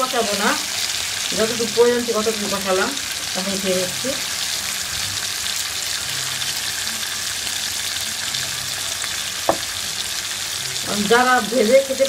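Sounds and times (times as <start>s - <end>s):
oil sizzling in frying pan: 0.0s - 12.0s.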